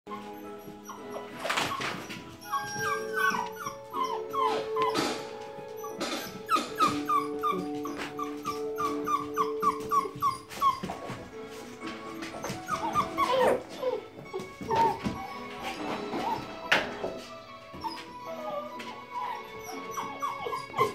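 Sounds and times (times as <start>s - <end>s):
puppies whimpering and yipping: 0.1s - 20.9s.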